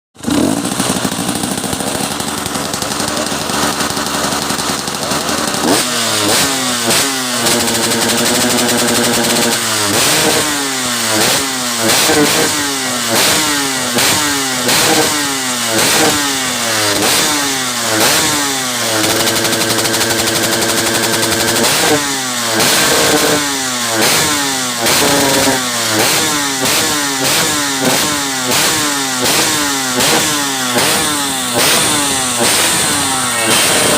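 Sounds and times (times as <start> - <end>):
two-stroke motorcycle engine revving: 0.2 - 33.9.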